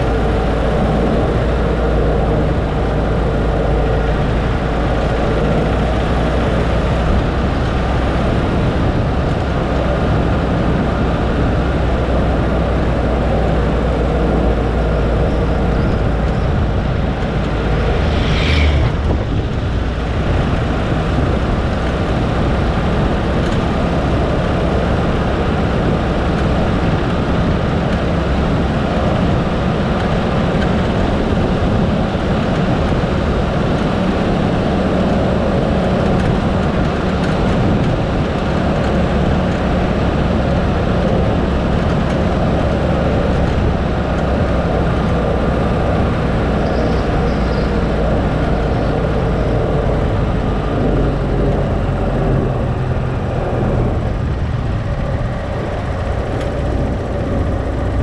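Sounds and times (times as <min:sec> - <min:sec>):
vehicle road and engine noise: 0:00.0 - 0:58.0.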